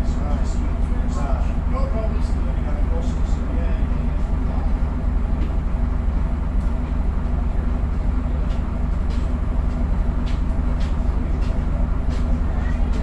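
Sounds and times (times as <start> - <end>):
bus diesel engine idling: 0.0 - 13.0.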